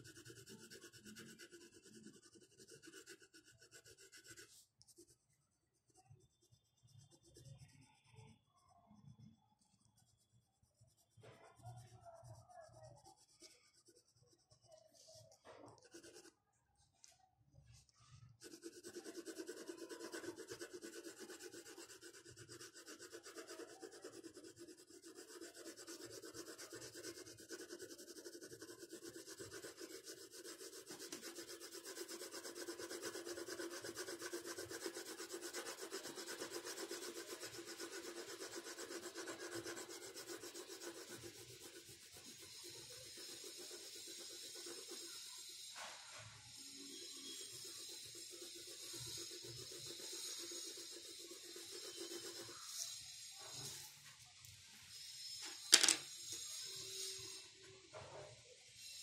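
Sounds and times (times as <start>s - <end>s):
pencil scratching on paper: 0.0s - 16.4s, 17.7s - 54.0s, 54.9s - 58.2s.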